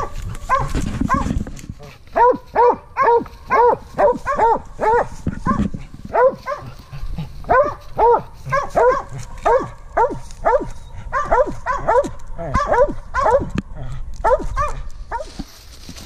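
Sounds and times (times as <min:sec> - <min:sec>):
dog barking: 0:00.0 - 0:01.4, 0:02.2 - 0:06.8, 0:07.4 - 0:13.6, 0:14.2 - 0:15.3.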